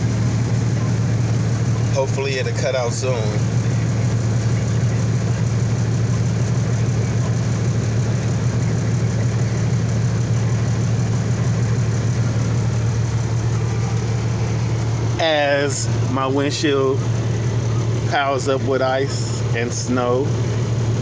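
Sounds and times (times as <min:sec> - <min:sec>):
diesel engine idling with fan: 0:00.0 - 0:21.0.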